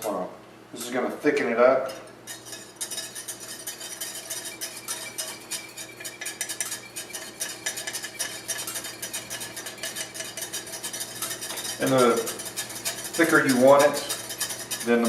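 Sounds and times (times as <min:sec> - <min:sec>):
whisk scraping against pot: 0:01.7 - 0:15.0.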